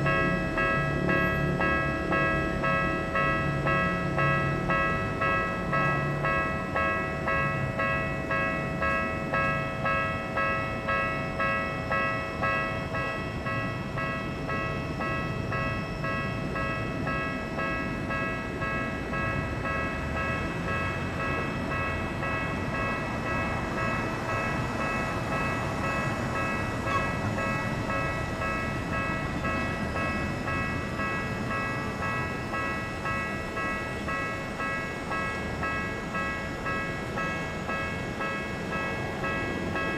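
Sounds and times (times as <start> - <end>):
level crossing alarm bell: 0.0 - 39.9
train wheels rumbling on rails: 0.0 - 39.9.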